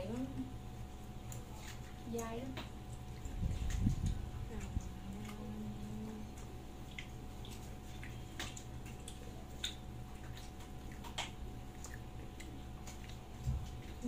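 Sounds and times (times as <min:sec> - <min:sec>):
low steady hum: 0:00.0 - 0:14.0
small wet eating noises: 0:00.0 - 0:14.0
soft eating clicks: 0:00.0 - 0:14.0.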